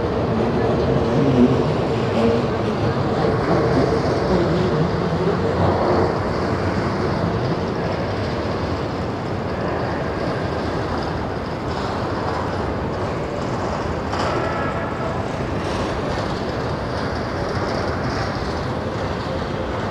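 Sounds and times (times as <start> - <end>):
steel train wheels on rail: 0.0 - 19.9.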